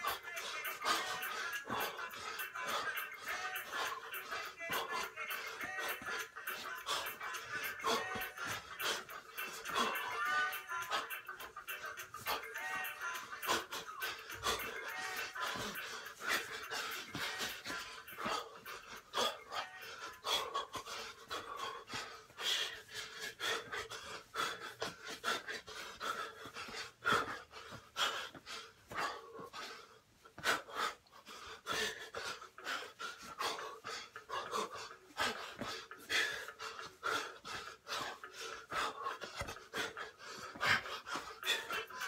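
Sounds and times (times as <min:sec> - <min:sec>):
man breathing sharply: 0:00.0 - 0:42.0.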